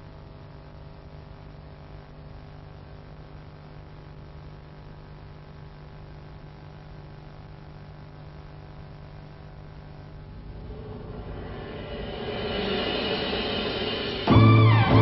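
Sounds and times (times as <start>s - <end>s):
low electrical hum: 0.0s - 15.0s
background hiss: 0.1s - 15.0s.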